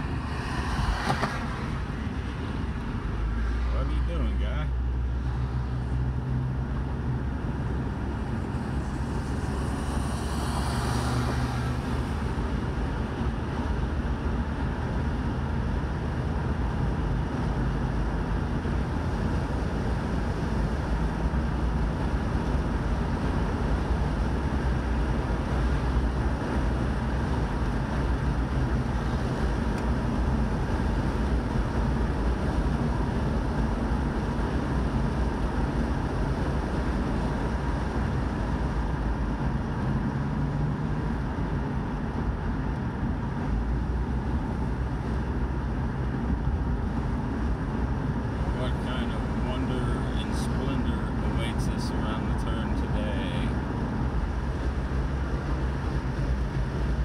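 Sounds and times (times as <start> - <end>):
car interior road noise: 0.0 - 57.0.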